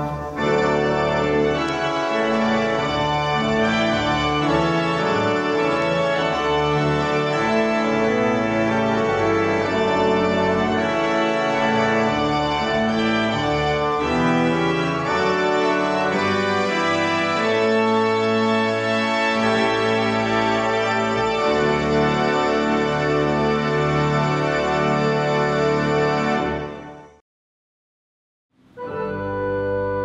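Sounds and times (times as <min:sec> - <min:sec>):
pipe organ chords: 0:00.0 - 0:27.2, 0:28.6 - 0:30.0.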